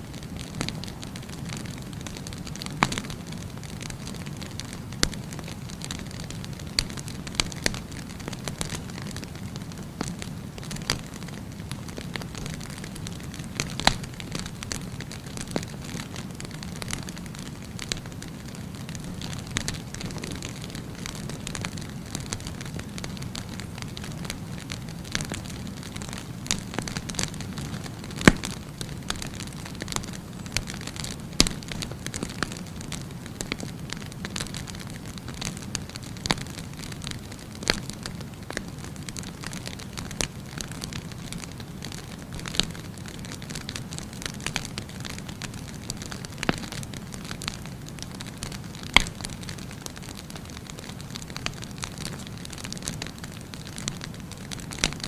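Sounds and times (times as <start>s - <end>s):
bonfire crackling and popping: 0.0s - 55.0s.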